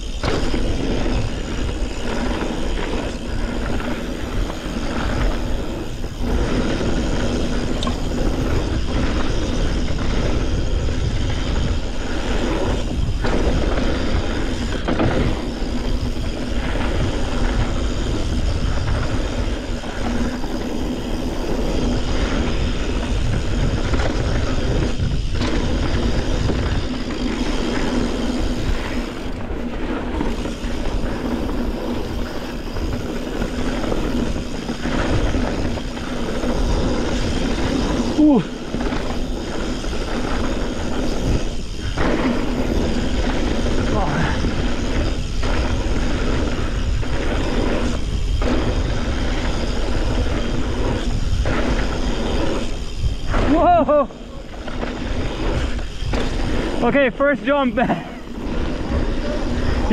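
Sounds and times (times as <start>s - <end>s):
wind on microphone: 0.0s - 57.2s
bike tyres rattling on dirt trail: 0.0s - 59.9s.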